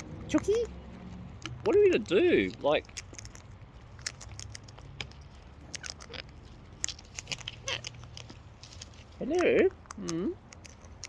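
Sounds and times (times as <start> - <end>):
parrot beaks and claws clicking: 0.0 - 11.0.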